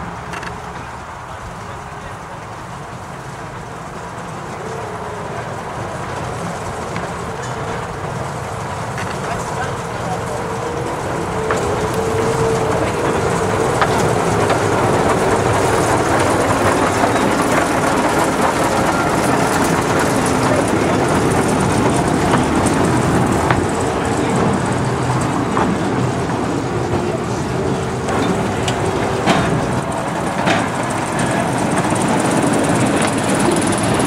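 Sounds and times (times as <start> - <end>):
small locomotive engine running: 0.0 - 34.0.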